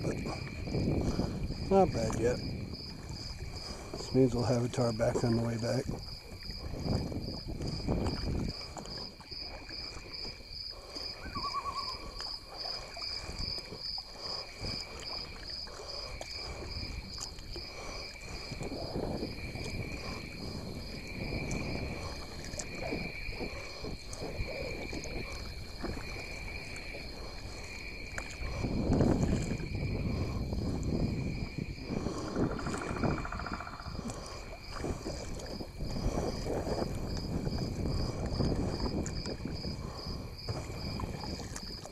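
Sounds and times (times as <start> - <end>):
paddle strokes in water: 0.0 - 41.9
wind buffeting microphone: 0.0 - 41.9.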